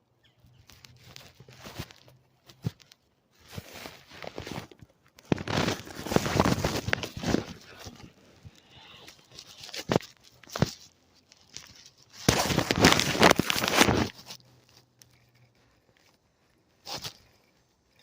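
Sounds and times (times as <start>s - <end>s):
rustling and handling noise: 0.2s - 18.0s.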